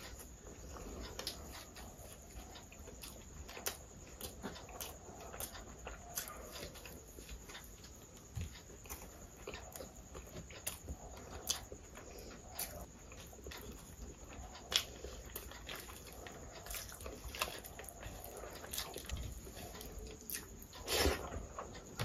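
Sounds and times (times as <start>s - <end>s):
person chewing with mouth open: 0.0s - 21.9s.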